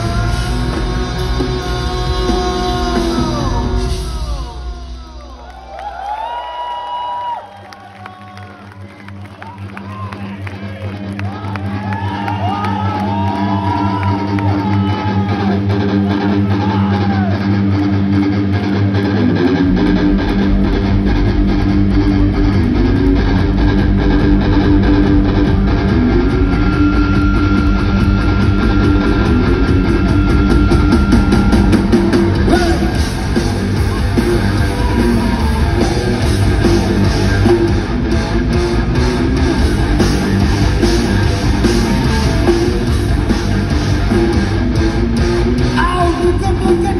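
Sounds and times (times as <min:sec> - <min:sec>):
bass and drums: 0:00.0 - 0:07.4, 0:09.4 - 0:46.9
rock band guitars: 0:00.0 - 0:46.9.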